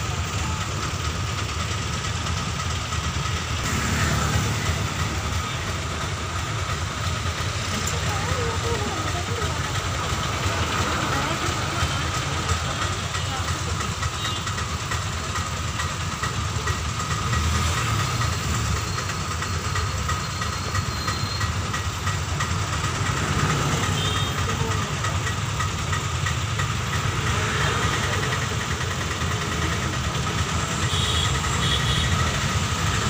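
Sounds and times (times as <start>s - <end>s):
road traffic engine rumble: 0.0s - 33.0s.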